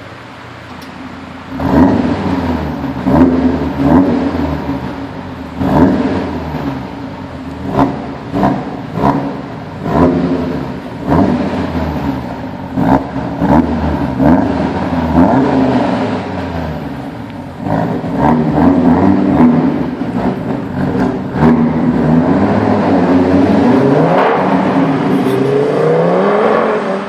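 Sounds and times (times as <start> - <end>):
car engine revving over idle: 0.0 - 27.0.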